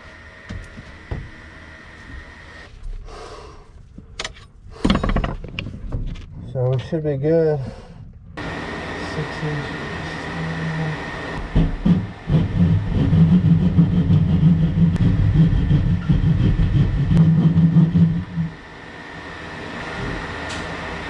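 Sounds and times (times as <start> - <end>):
machine running with low hum: 0.0 - 5.3, 5.9 - 21.0.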